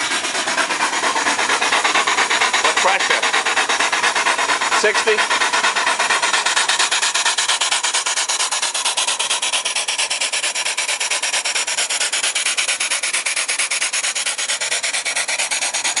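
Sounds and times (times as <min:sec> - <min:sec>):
steam engine exhaust beats: 0:00.0 - 0:16.0.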